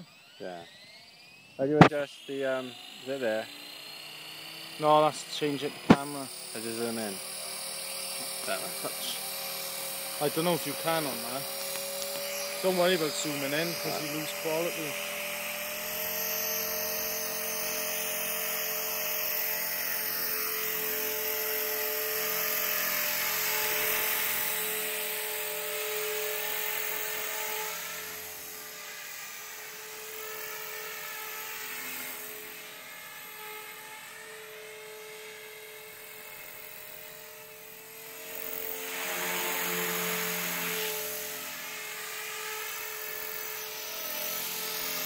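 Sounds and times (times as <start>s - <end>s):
model helicopter rotor whine: 0.0s - 45.0s.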